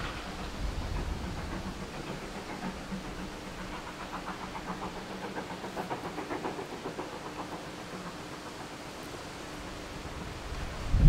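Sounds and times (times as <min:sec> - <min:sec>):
steam locomotive exhaust beating: 0:00.0 - 0:11.0.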